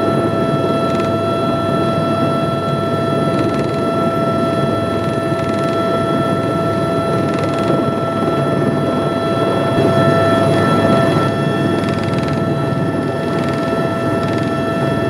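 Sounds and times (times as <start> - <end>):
helicopter cabin rumble: 0.0 - 15.0
helicopter high whine: 0.0 - 15.0.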